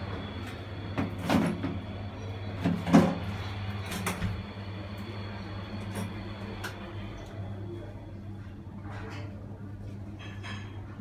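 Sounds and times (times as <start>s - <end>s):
exhaust fan humming: 0.0s - 10.1s.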